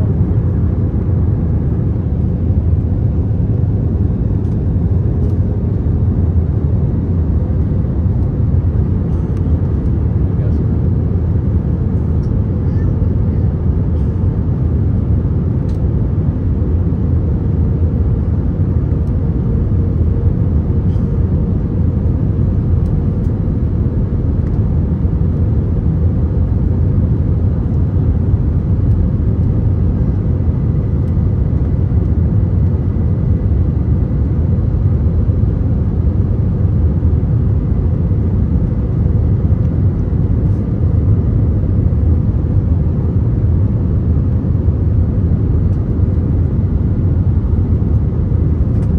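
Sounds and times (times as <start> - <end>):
aircraft cabin engine rumble: 0.0 - 48.9.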